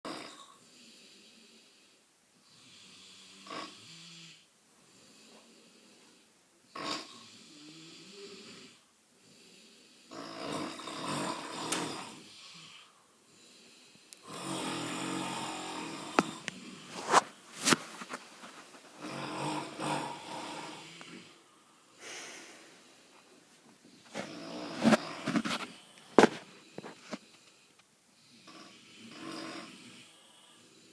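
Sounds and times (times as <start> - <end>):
people snoring: 0.1 - 30.9.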